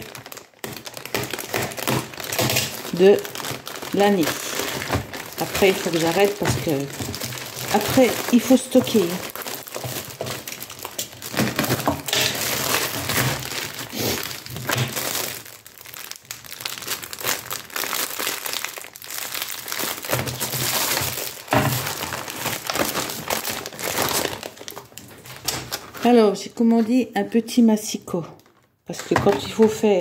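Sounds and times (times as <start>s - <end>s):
plastic packaging crinkling: 0.0s - 27.1s, 28.2s - 30.0s.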